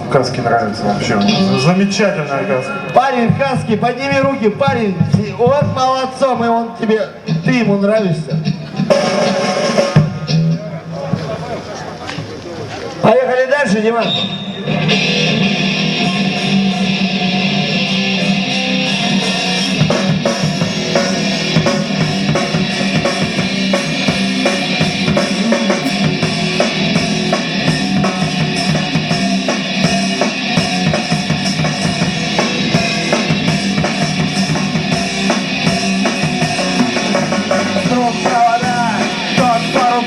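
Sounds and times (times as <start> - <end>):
rock band playing: 0.0 - 11.5, 14.2 - 40.0
drum kit beat: 3.2 - 6.1, 7.2 - 11.3, 14.8 - 40.0.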